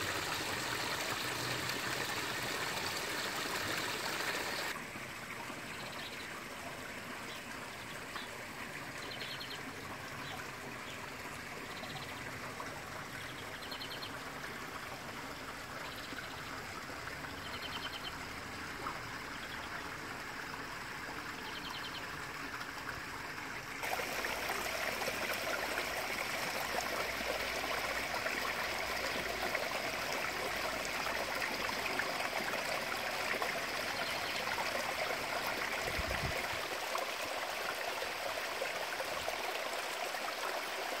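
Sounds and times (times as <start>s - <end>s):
water trickling in stream: 0.0s - 41.0s.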